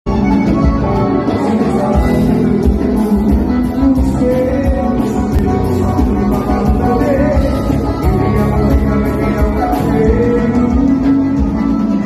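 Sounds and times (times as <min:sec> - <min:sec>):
guitar: 0:00.0 - 0:12.0
live band playing amplified music: 0:00.0 - 0:12.0.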